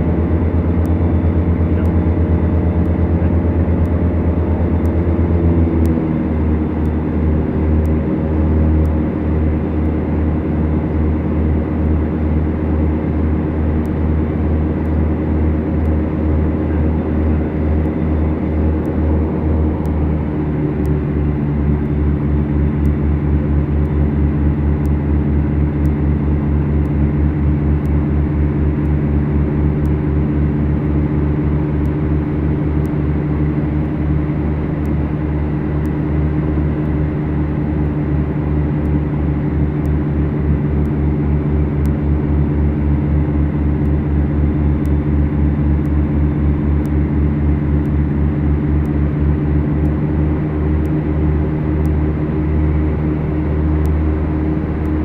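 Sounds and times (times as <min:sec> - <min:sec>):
propeller plane engines droning: 0:00.0 - 0:55.0.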